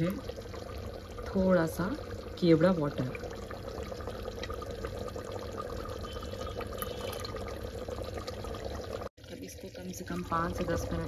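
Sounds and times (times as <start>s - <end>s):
gravy bubbling and sizzling: 0.0s - 11.0s.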